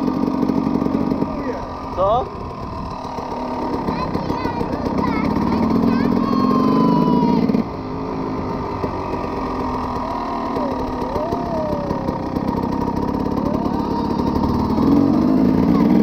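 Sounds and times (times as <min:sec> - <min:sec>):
two-stroke motorbike engine: 0:00.0 - 0:16.0.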